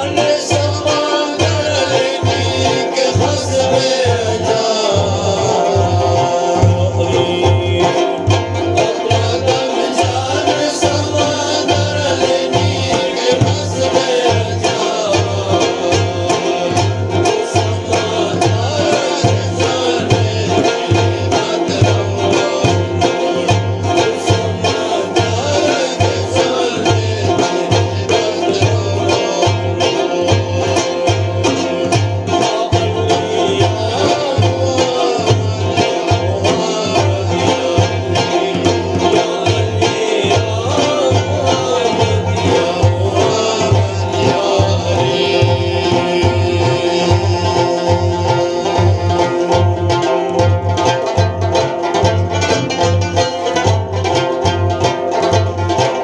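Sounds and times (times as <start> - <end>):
person singing: 0.0 - 51.1
plucked string instrument: 0.0 - 56.0
steady beat: 0.0 - 56.0.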